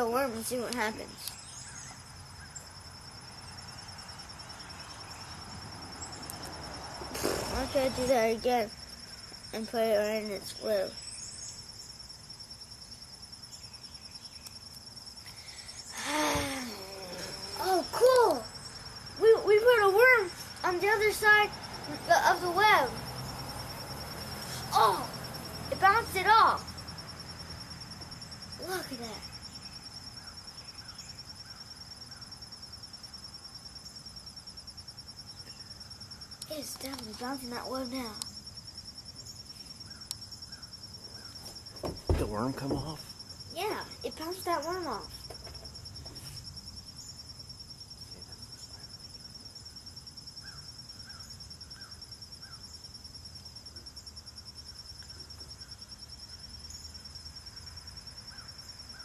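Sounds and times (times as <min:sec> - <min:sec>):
cricket chirping: 0:00.0 - 0:59.0
insect trill: 0:00.0 - 0:59.0.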